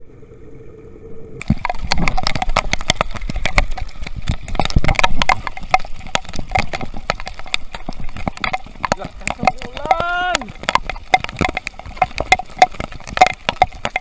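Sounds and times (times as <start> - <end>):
heavy rain drops: 1.4 - 14.0.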